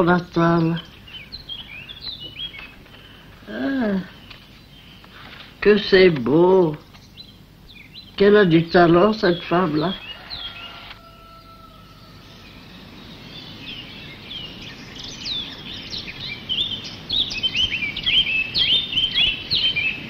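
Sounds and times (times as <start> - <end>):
low background hiss: 0.0 - 20.0
songbirds chirping: 0.0 - 20.0.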